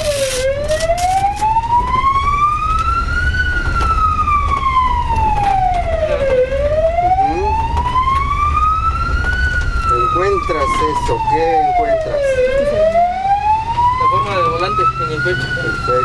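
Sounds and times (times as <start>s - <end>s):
ambulance siren wailing: 0.0s - 16.0s
engine and road rumble: 0.0s - 16.0s.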